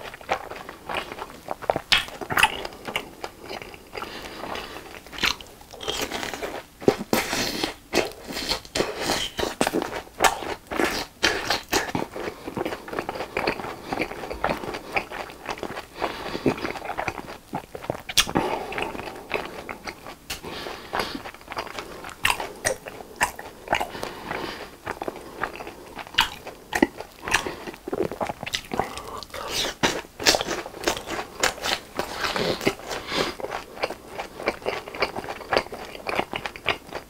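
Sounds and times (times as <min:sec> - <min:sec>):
crunchy chewing: 0:00.0 - 0:37.0.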